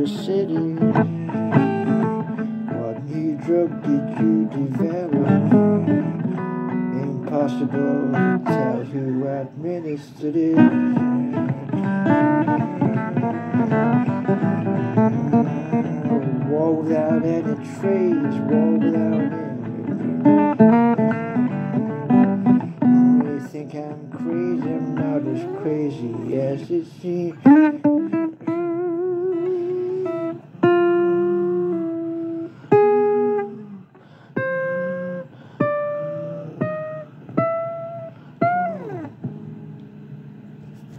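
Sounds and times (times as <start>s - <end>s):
blues guitar playing: 0.0s - 40.7s.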